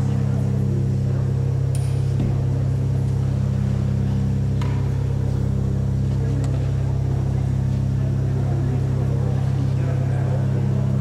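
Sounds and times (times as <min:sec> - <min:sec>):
church organ low drone: 0:00.0 - 0:11.0.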